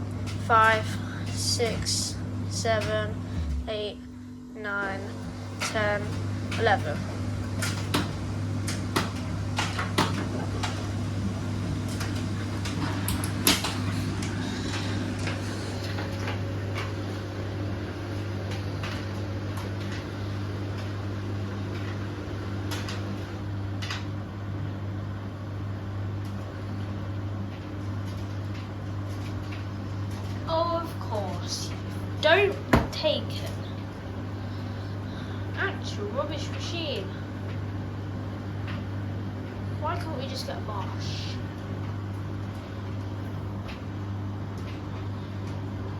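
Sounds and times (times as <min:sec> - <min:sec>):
washing machine humming: 0:00.0 - 0:45.9.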